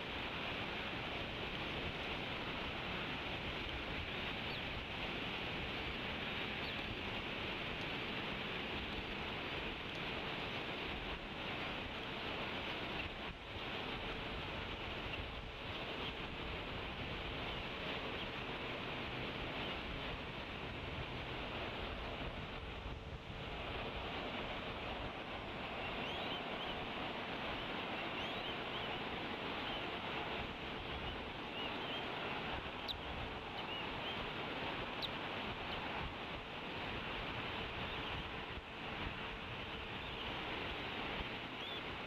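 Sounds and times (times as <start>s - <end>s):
wind noise on microphone: 0.0s - 42.0s.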